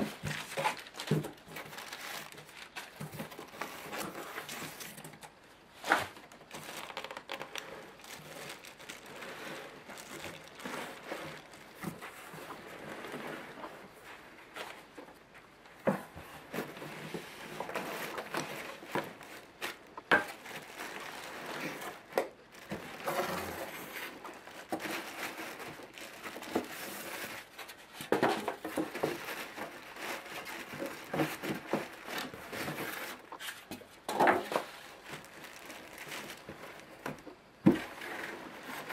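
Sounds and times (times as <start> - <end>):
plastic bag crinkling: 0.0 - 14.2, 16.7 - 38.9.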